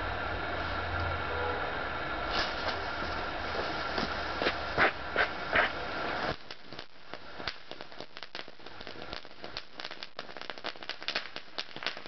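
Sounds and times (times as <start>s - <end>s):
firework fountain hissing: 2.0s - 12.0s
firework crackling pops: 2.3s - 12.0s.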